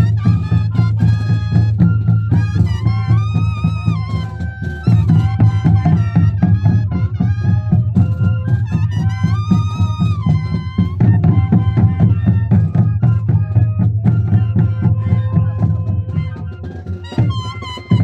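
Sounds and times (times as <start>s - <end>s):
duct flutes playing melody: 0.0s - 18.0s
steady drum beat: 0.0s - 18.0s.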